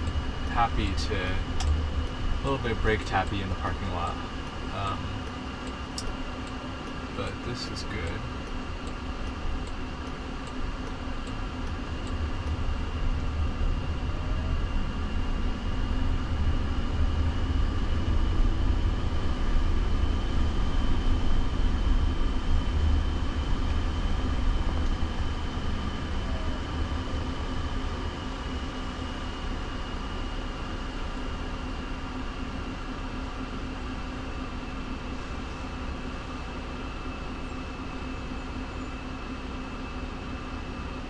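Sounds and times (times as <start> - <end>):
faint high whine: 0.0 - 41.0
road and tyre noise: 0.0 - 41.0.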